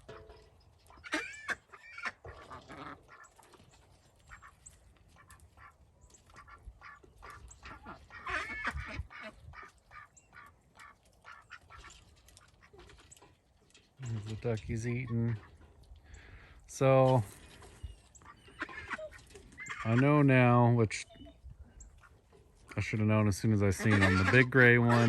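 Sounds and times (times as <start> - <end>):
ducks quacking: 0.0 - 13.3, 14.0 - 25.0.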